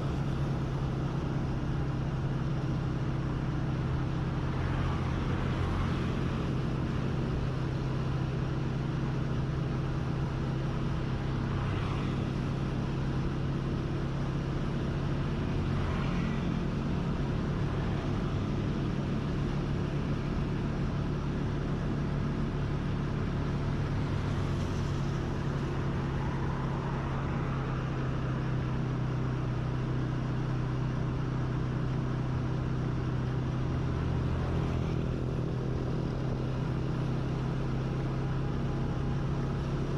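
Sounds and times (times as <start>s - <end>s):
faint passing traffic: 0.0s - 39.9s
road noise: 0.0s - 39.9s
vehicle engine humming: 0.0s - 39.9s.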